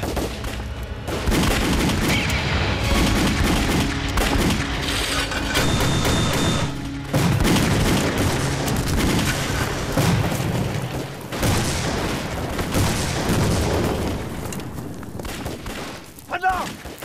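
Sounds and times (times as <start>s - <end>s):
heavy explosions: 0.0s - 16.1s
continuous gunfire: 0.0s - 17.0s.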